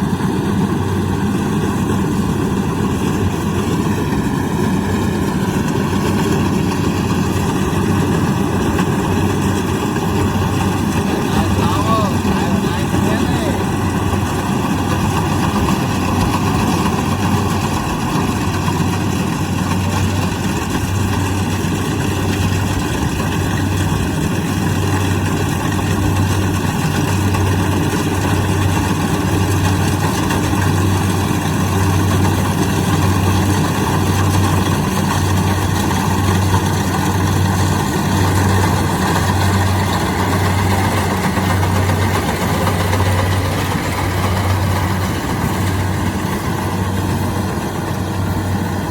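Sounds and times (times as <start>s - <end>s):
combine harvester engine hum: 0.0s - 48.9s
constant mechanical noise: 0.0s - 48.9s.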